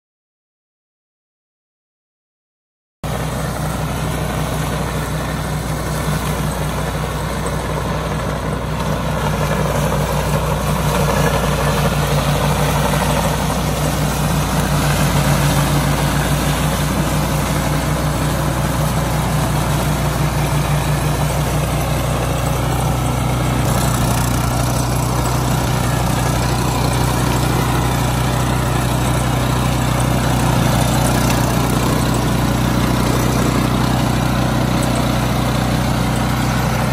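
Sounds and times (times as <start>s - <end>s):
mower engine running: 3.0s - 36.9s.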